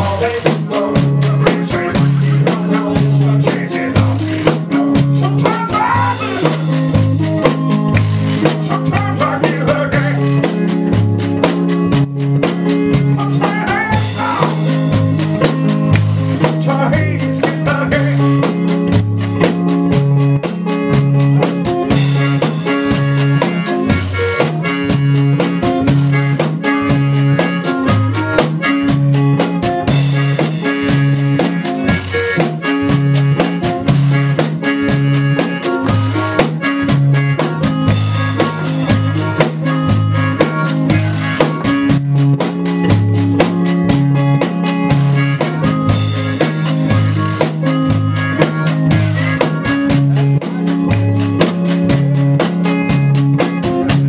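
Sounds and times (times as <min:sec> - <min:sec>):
acoustic guitar picking: 0:00.0 - 0:54.0
drum kit: 0:00.0 - 0:54.0.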